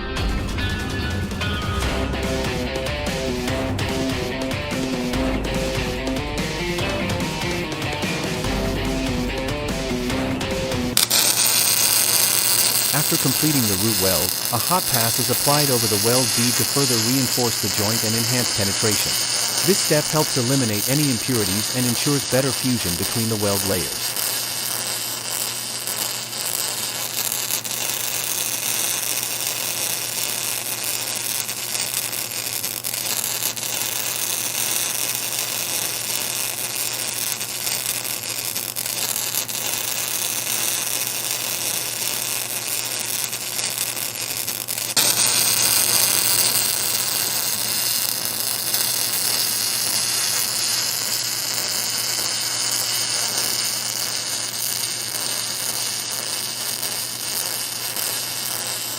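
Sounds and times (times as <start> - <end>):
welding arc buzzing and hissing: 0.0 - 58.9.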